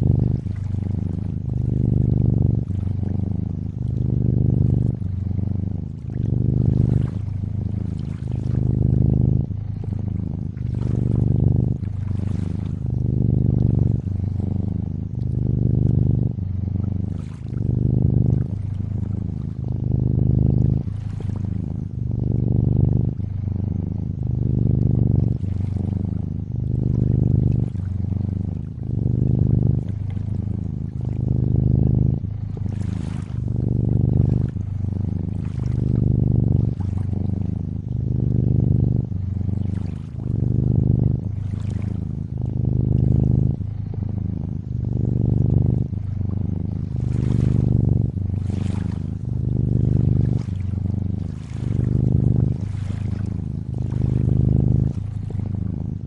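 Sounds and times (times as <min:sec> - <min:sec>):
cat purring: 0:00.0 - 0:56.0
faint lapping water: 0:00.0 - 0:56.0.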